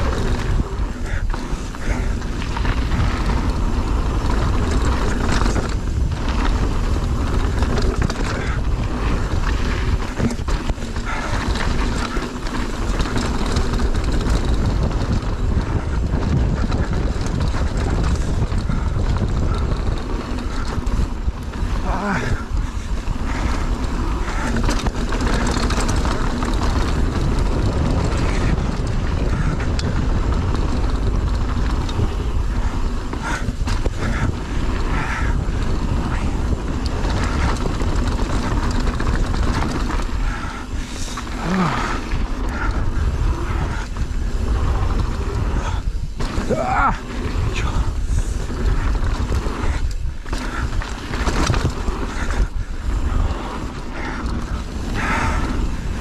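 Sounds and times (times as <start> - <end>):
bike rattling and knocking: 0.0 - 56.0
bike tyre noise: 0.0 - 56.0
wind rushing over microphone: 0.0 - 56.0.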